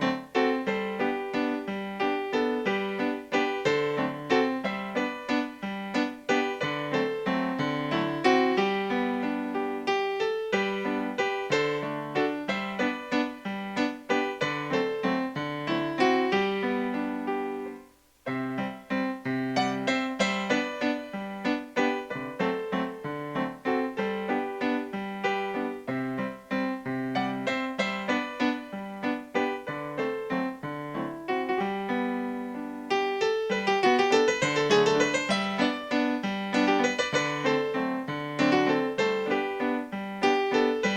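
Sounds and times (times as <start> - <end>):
piano music: 0.0 - 40.9.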